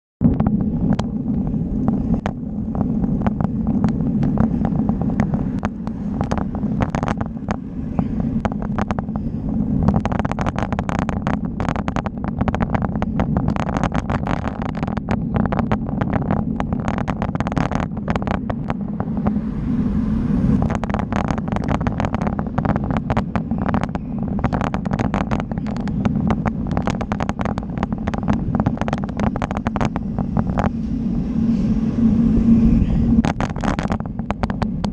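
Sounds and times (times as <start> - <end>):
bike riding rumble: 0.2 - 34.9
rattling clicks: 0.4 - 19.4, 20.5 - 32.0, 32.8 - 34.9.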